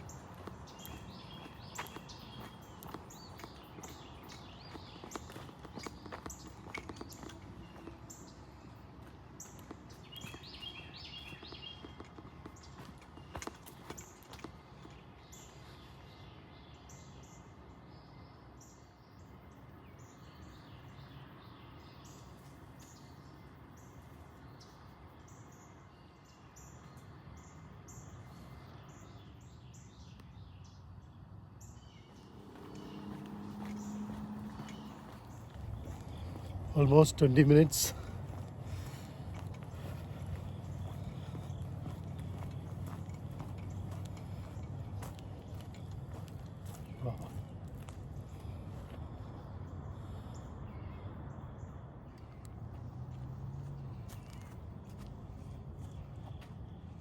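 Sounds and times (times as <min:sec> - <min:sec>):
footsteps on a trail: 0:00.0 - 0:17.6, 0:21.8 - 0:30.8, 0:31.6 - 0:50.9, 0:52.1 - 0:57.0
birds chirping: 0:00.0 - 0:57.0.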